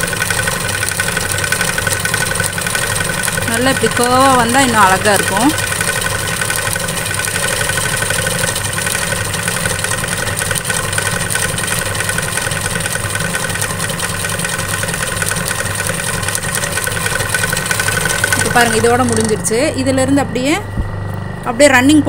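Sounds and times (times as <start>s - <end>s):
sewing machine running: 0.0s - 21.6s.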